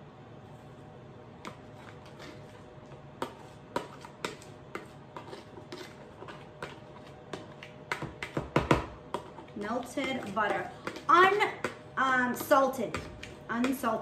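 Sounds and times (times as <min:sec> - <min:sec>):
metal spoon scraping plastic bowl: 0:01.5 - 0:08.5, 0:09.1 - 0:14.0.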